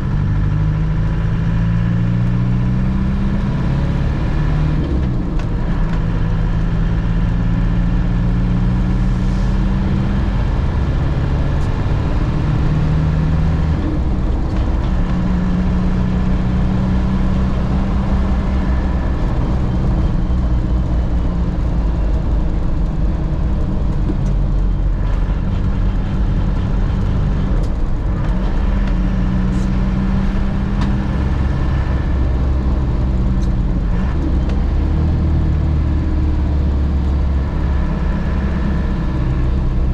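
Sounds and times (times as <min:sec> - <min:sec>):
car engine inside cab: 0:00.0 - 0:39.9.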